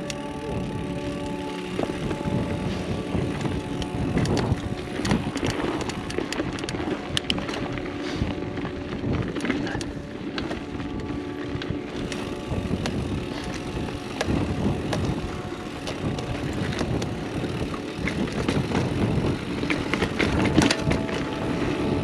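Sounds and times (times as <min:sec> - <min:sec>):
bike clattering over bumps: 0:00.0 - 0:22.0
bike tyres rolling over dirt: 0:00.0 - 0:22.0.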